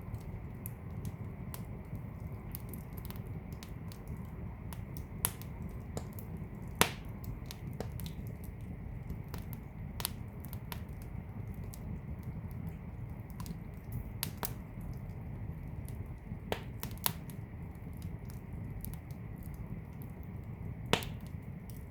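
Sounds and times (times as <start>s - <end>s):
burning logs crackling and popping: 0.0s - 21.9s
fire flames rumbling: 0.0s - 21.9s.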